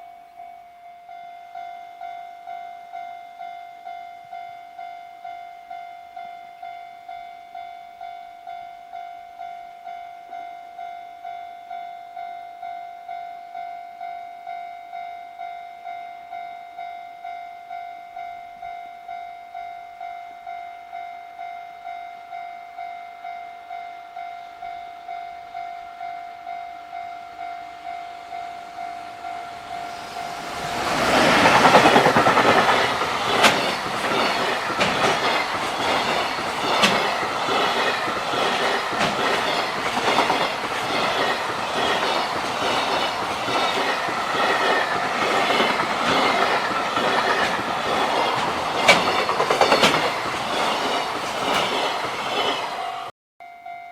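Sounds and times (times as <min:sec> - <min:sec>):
level-crossing warning bell ringing: 0:00.0 - 0:53.9
approaching freight train: 0:01.1 - 0:53.8.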